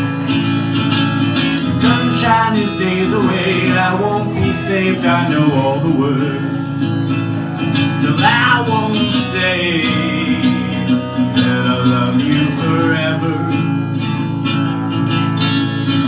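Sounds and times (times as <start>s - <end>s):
person singing: 0.0s - 15.1s
acoustic guitar strumming: 0.0s - 16.0s.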